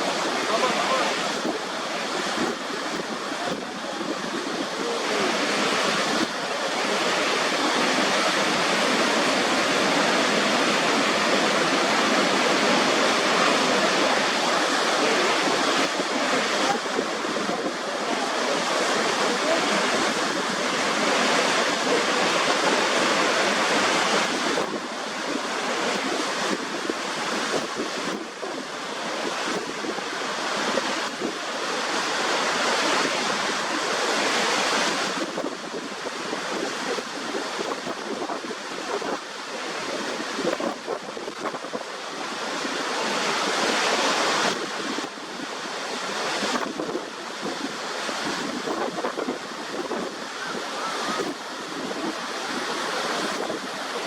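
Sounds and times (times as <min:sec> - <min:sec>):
rush of falling water: 0:00.0 - 0:54.0
wind noise on microphone: 0:00.0 - 0:54.0.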